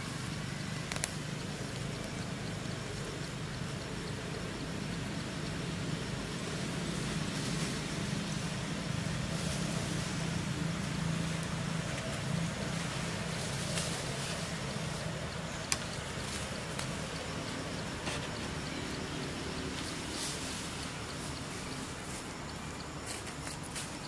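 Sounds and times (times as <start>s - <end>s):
background hiss: 0.0s - 24.0s.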